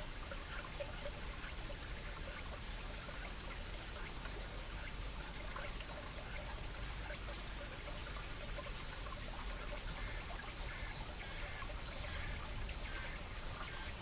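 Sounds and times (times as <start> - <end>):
stream gurgling over rocks: 0.0 - 14.0.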